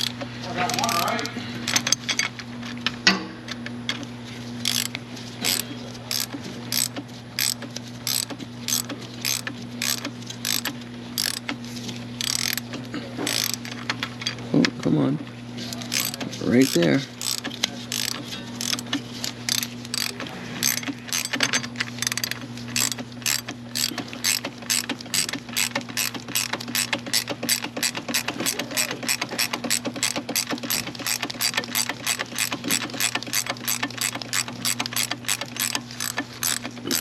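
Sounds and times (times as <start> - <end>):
hand ratchet clicking: 0.0 - 1.9, 4.6 - 11.5, 12.2 - 12.6, 13.3 - 13.7, 15.7 - 37.0
steady low hum: 4.1 - 37.0.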